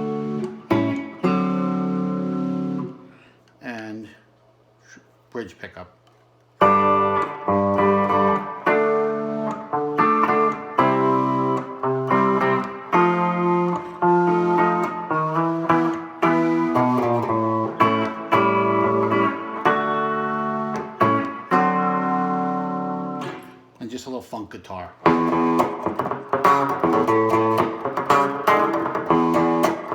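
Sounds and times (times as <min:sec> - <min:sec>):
clean electric guitar playing: 0:00.0 - 0:03.2, 0:06.6 - 0:23.8, 0:25.0 - 0:29.9.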